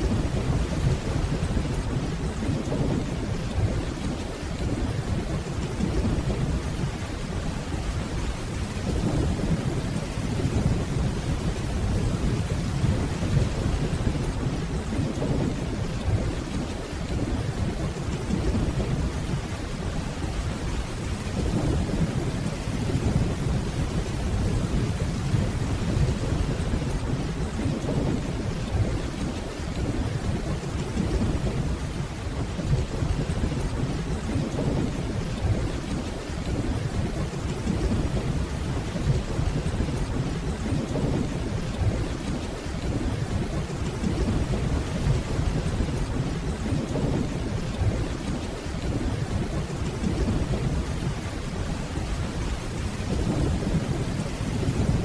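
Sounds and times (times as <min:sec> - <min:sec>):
distant rolling thunder: 0:00.0 - 0:55.0
steady rainfall: 0:00.0 - 0:55.0.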